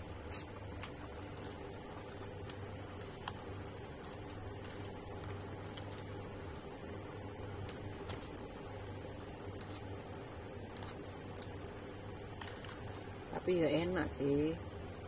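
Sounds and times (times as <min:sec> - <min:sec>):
person chewing food: 0:00.0 - 0:13.3
steady low hum: 0:00.0 - 0:15.0.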